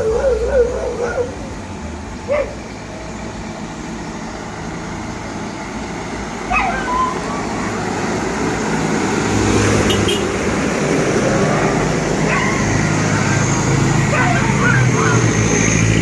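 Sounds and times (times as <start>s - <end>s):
truck engine driving past: 0.0s - 16.0s.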